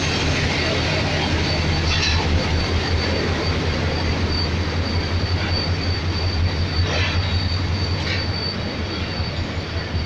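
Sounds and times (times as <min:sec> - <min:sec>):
high wheel squeal: 0:00.0 - 0:10.0
train coaches rumbling past: 0:00.0 - 0:10.0.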